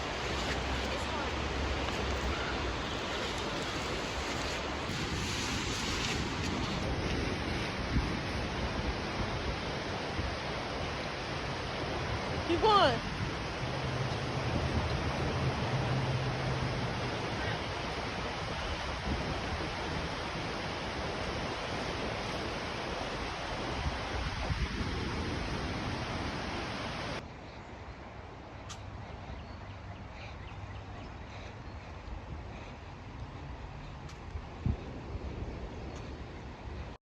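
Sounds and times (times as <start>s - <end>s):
steady rushing outdoor noise: 0.0s - 37.0s.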